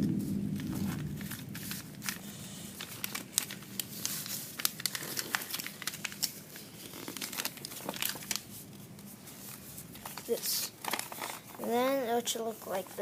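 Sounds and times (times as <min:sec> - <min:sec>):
paper crinkling and crackling: 0:00.0 - 0:13.0.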